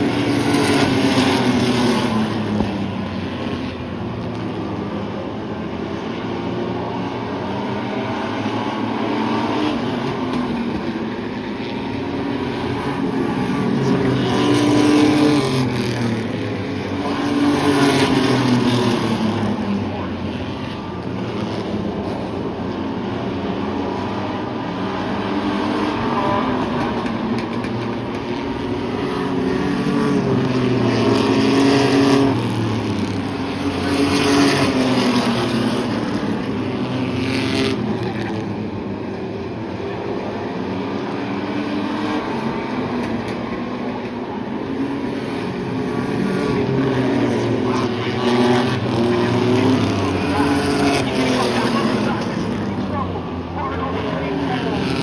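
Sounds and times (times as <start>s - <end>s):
racing truck engines revving: 0.0s - 55.0s.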